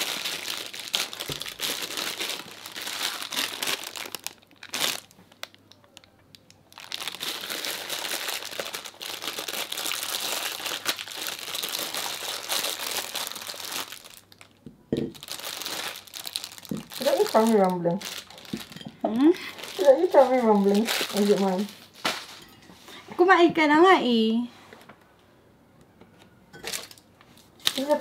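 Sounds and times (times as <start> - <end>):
plastic bag crinkling: 0.0 - 22.6, 26.6 - 28.0.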